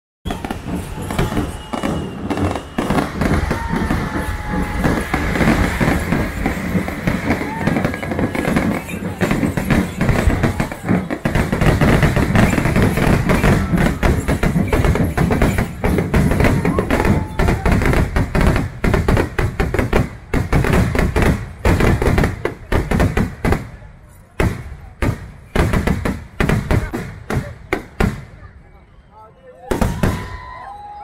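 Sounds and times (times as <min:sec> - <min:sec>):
fireworks bangs and cracks: 0:00.2 - 0:28.5, 0:29.7 - 0:30.8.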